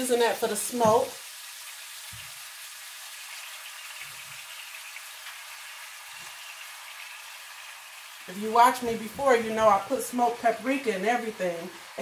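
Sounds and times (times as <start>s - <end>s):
steak sizzling in a hot pan: 0.0s - 12.0s.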